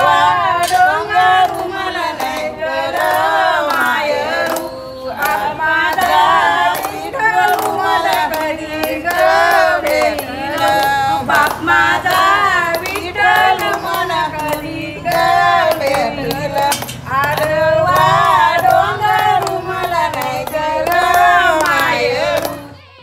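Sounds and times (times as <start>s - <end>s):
hands clapping in rhythm: 0.0s - 22.8s
women singing folk song: 0.0s - 23.0s.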